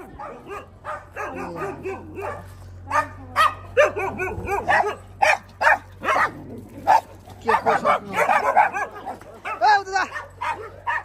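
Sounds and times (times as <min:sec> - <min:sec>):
several dogs barking: 0:00.0 - 0:11.0.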